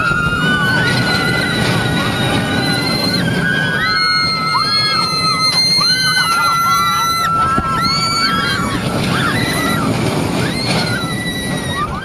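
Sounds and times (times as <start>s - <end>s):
roller coaster riders screaming: 0.0s - 12.0s
roller coaster rumble: 0.0s - 12.0s.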